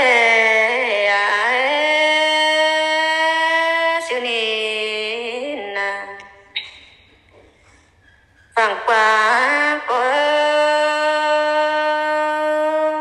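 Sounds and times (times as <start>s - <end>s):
person singing unaccompanied: 0.0s - 6.3s, 8.6s - 13.0s.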